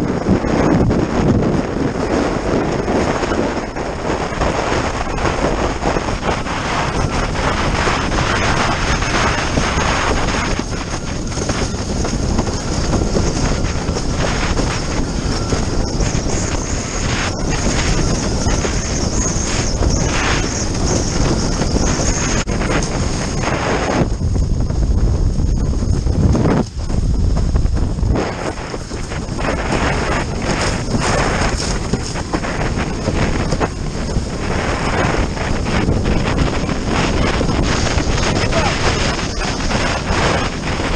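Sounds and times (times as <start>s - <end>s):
wind buffeting microphone: 0.0s - 40.9s
water rushing and splashing: 1.8s - 40.9s.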